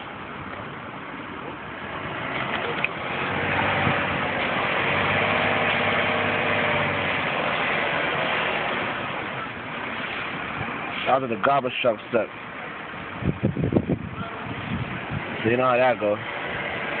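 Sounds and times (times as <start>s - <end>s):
truck engine revving: 1.7s - 11.6s, 12.9s - 17.0s.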